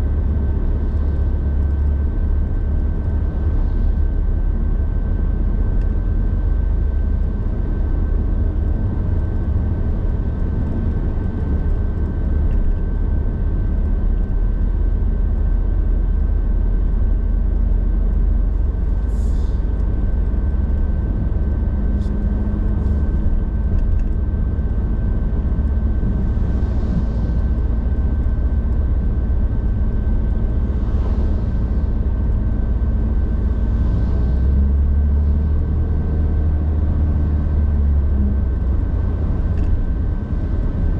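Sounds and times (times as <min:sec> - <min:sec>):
car road and engine rumble: 0:00.0 - 0:40.9
faint steady whine: 0:00.0 - 0:40.9.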